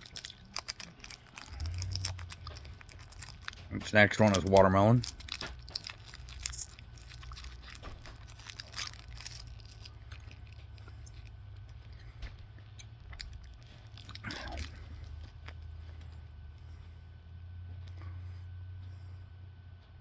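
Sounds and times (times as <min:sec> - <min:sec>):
chewing soft candy: 0:00.0 - 0:19.2
low steady hum: 0:00.0 - 0:20.0.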